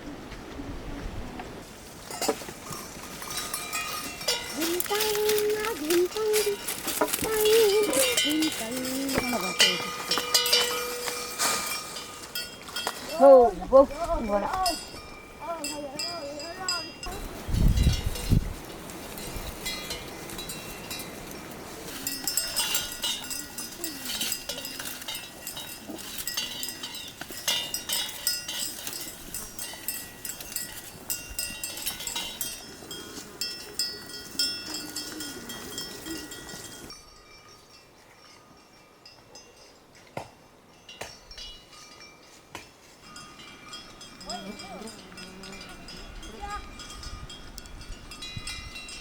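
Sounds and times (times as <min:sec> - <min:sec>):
livestock bells clinking: 0:02.0 - 0:49.0.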